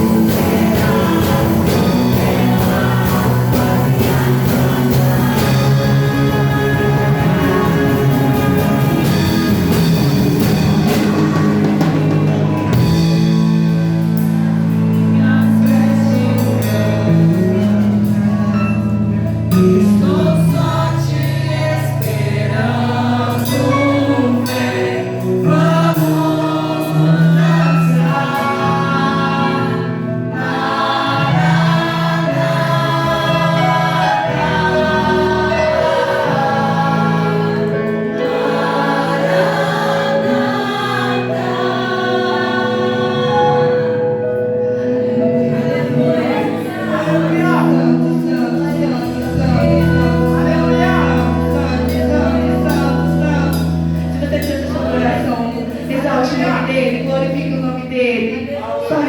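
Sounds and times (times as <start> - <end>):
sustained keyboard chords: 0.0 - 59.0
voices singing together: 0.0 - 59.0.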